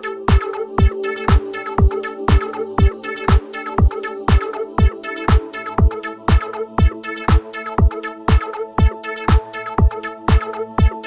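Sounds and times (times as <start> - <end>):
hi-hat ticks: 0.0 - 11.0
kick drum: 0.3 - 11.0.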